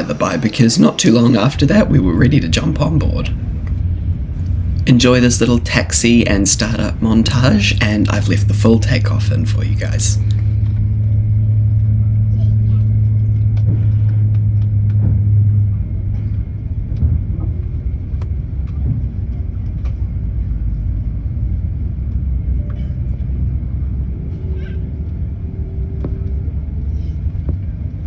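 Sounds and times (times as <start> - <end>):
aircraft cabin rumble: 0.0 - 28.0
strong low hum: 0.0 - 28.0.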